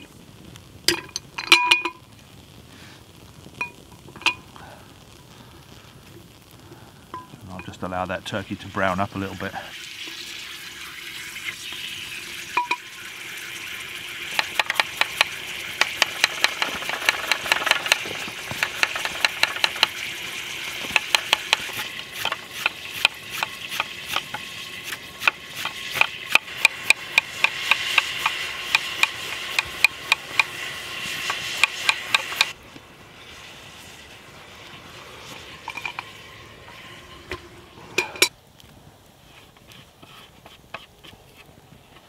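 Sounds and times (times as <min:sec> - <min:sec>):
meat frying in oil: 0:00.0 - 0:37.8.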